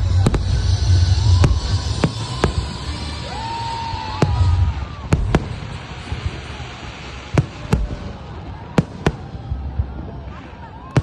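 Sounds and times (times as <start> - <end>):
fireworks banging: 0.0 - 11.0
low rumbling echo: 0.0 - 11.0.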